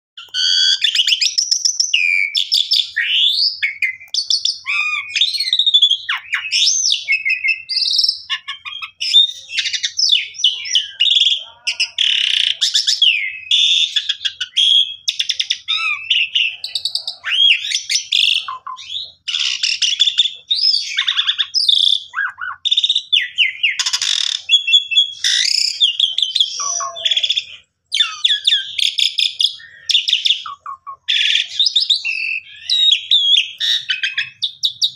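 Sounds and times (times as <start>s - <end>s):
starling singing: 0.2s - 34.9s.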